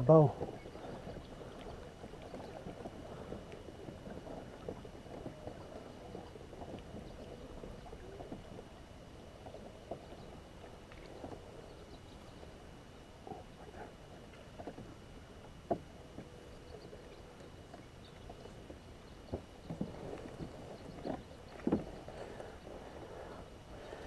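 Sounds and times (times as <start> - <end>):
faint water movement: 0.0 - 24.0.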